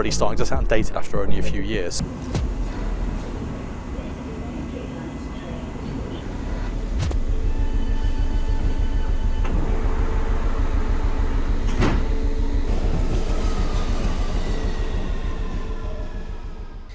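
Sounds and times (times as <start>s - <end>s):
steady tones: 0.0s - 16.9s
vehicle low rumble: 0.0s - 16.9s.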